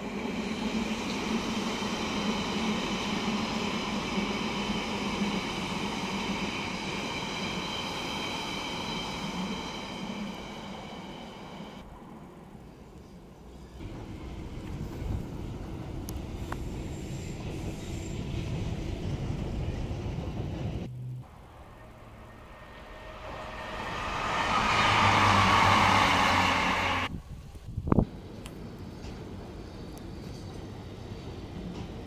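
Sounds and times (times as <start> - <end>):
train wheels on rails: 0.0 - 11.9, 13.5 - 27.1, 28.0 - 32.0
low train rumble: 0.0 - 32.0.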